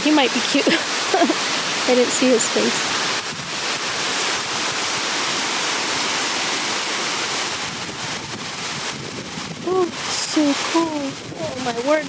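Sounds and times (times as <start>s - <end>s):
waterfall rushing into stream: 0.0s - 12.0s.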